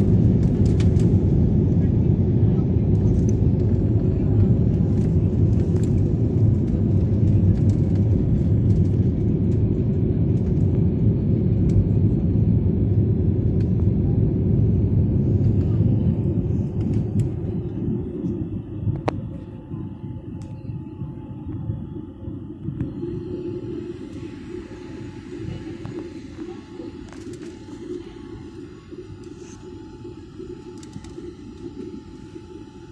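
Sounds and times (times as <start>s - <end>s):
jet engines rumbling in cabin: 0.0s - 32.9s.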